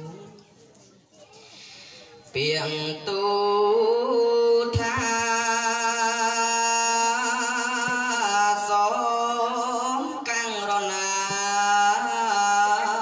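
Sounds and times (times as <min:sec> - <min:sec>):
person singing melodic chant: 0:00.0 - 0:00.5, 0:01.3 - 0:13.0.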